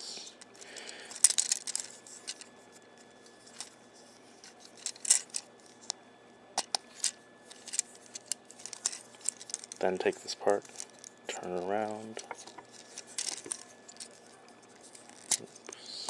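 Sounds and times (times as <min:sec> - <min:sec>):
plastic parts clicking and rattling: 0:00.4 - 0:02.5, 0:03.4 - 0:03.8, 0:04.4 - 0:06.0, 0:06.6 - 0:15.8.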